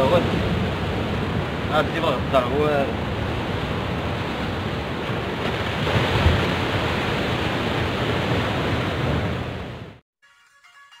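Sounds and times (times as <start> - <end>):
waves breaking on rocks: 0.0 - 9.7.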